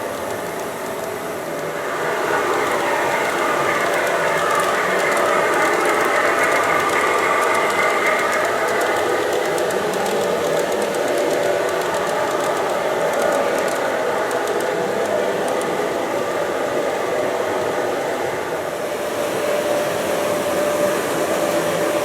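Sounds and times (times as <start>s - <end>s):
model train motor running: 0.0s - 22.0s
wheels clicking on rails: 0.0s - 22.0s.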